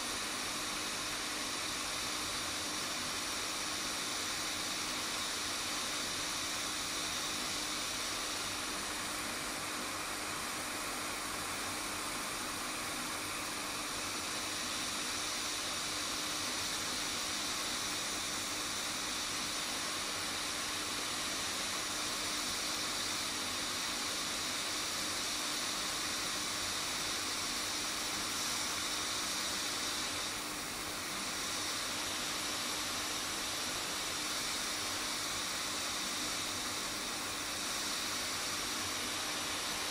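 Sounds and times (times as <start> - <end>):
hot air station hiss: 0.0 - 39.9.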